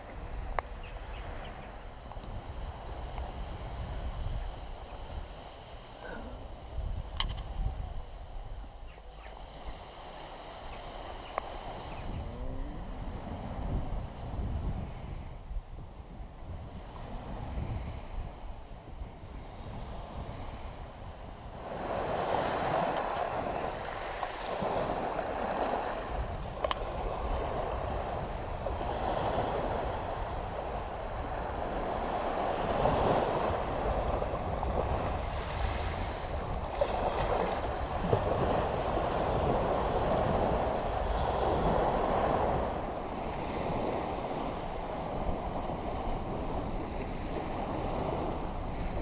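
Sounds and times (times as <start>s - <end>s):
sea waves breaking on shore: 0.0s - 49.0s
wind buffeting microphone: 0.0s - 49.0s.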